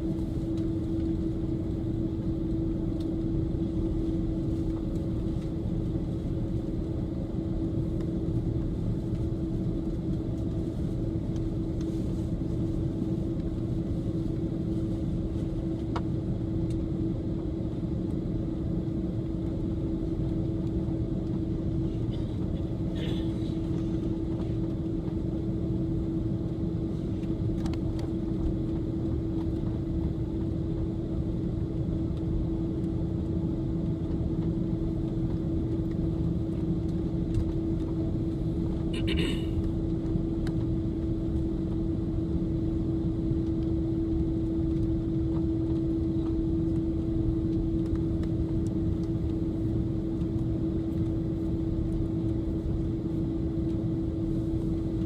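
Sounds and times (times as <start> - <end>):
aircraft cabin engine drone: 0.0 - 55.0
constant low hum: 0.0 - 55.0.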